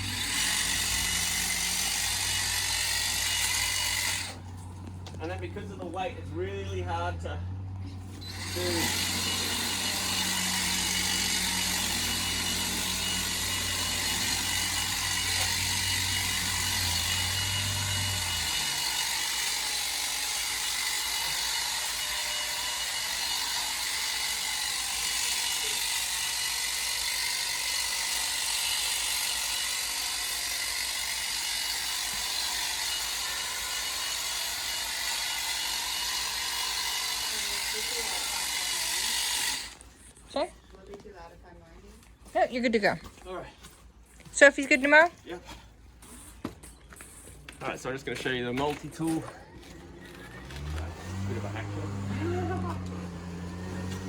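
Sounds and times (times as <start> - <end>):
hedge trimmer humming: 0.0 - 39.9, 48.7 - 54.0.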